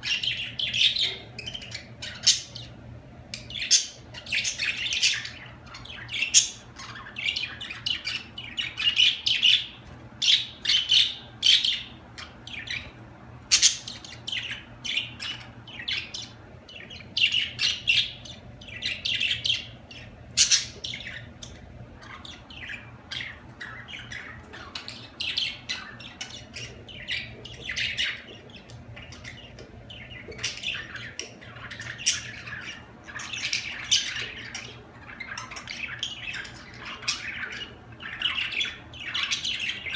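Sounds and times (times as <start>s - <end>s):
budgerigars chirping and squawking: 0.0s - 39.9s
faint low hum: 0.0s - 39.9s.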